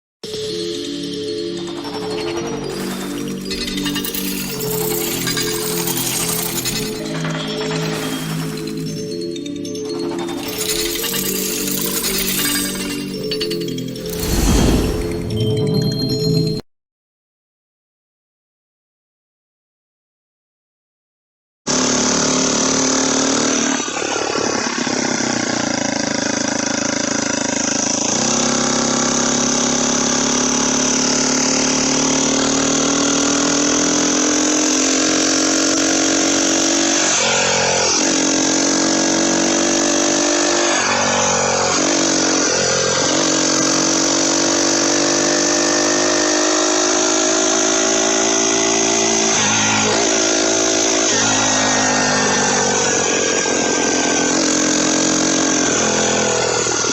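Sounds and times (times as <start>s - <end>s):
motorized bicycle engine running: 0.4s - 14.4s, 21.7s - 56.9s.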